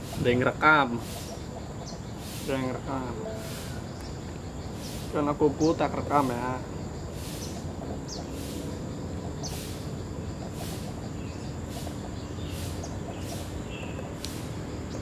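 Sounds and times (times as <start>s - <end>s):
bird chirps: 0.0s - 15.0s
insect buzzing pulses: 0.0s - 15.0s
steady background noise: 0.0s - 15.0s.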